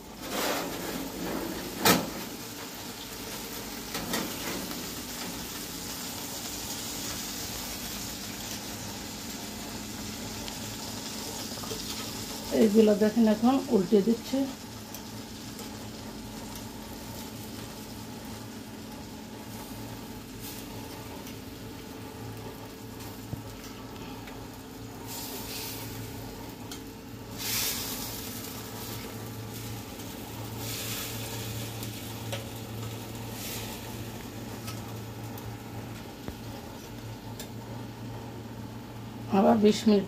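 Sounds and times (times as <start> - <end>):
chicken sizzling in oil: 0.0 - 40.0.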